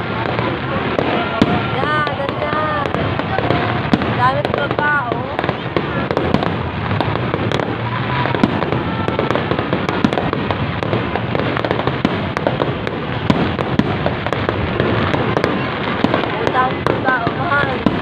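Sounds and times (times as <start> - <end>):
fireworks bangs and crackle: 0.0 - 18.0.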